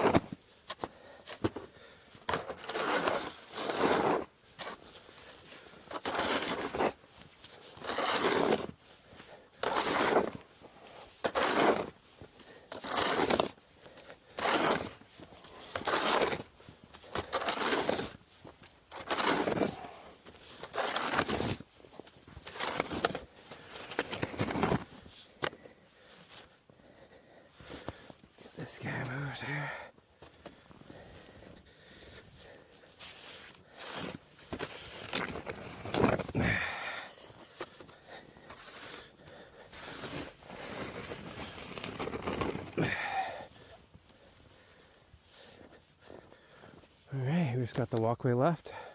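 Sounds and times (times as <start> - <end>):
snow shovel scraping pavement: 0.0 - 48.9.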